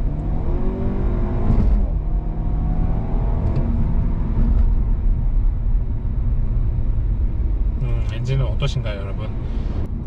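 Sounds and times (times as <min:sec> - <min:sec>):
car engine accelerating hard: 0:00.0 - 0:08.1.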